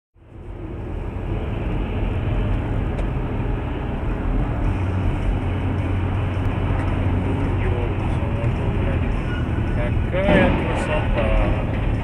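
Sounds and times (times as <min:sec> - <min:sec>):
road noise: 0:00.2 - 0:12.0
vehicle engine drone: 0:00.2 - 0:12.0.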